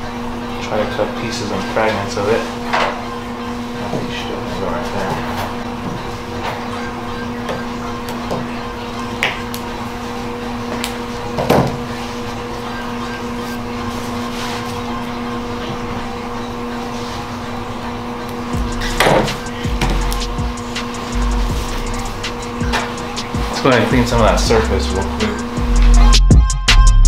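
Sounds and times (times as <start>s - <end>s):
steady low hum: 0.0s - 26.4s.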